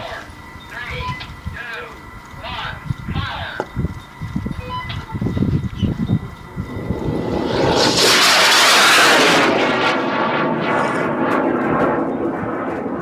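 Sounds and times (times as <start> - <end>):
rocket motor roaring: 0.0 - 13.0.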